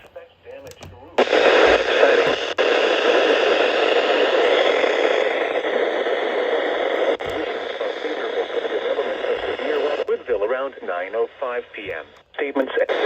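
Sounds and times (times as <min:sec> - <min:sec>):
radio static hiss: 0:00.0 - 0:13.0
voice drowned by static: 0:00.0 - 0:13.0.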